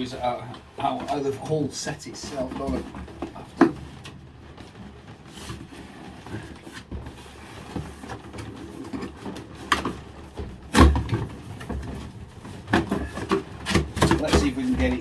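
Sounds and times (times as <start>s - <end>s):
plastic case scraping cardboard: 0.8s - 15.0s.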